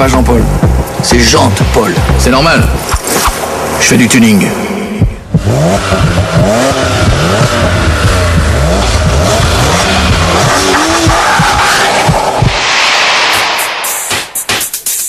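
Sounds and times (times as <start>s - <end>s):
steady low drone: 0.0s - 13.6s
car engine revving: 0.0s - 14.2s.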